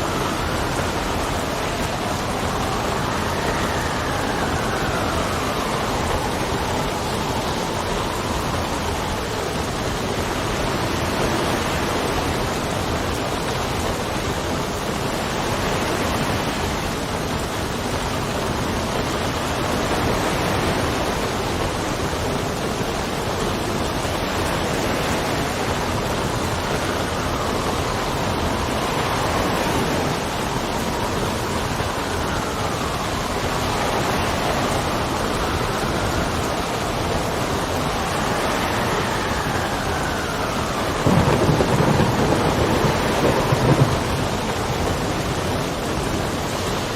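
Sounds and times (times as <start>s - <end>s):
steady rain: 0.0s - 46.9s
whistling wind: 0.0s - 46.9s.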